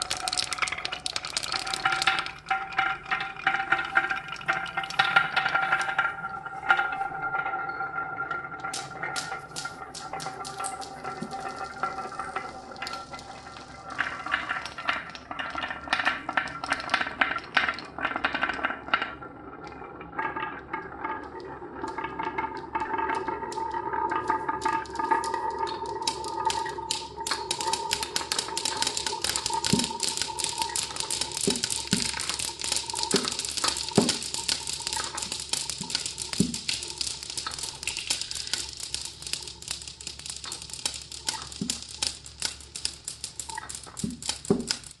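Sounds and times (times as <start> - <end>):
marbles clicking down a marble run: 0.0 - 45.0.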